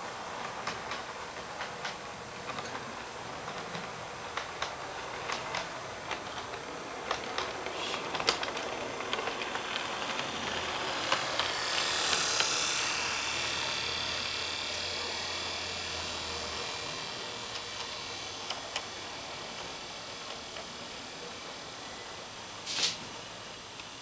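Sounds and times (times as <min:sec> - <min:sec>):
model locomotive whirring: 0:00.0 - 0:24.0.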